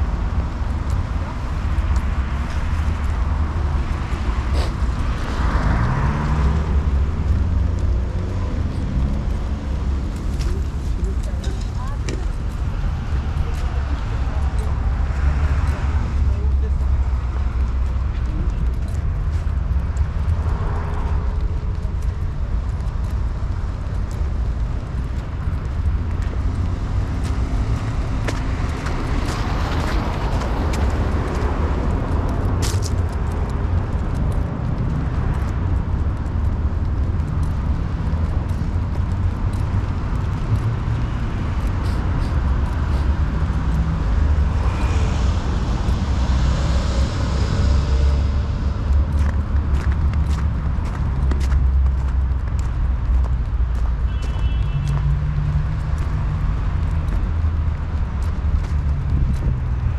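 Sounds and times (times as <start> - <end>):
cars driving past: 0.0 - 59.9
low traffic rumble: 0.0 - 59.9.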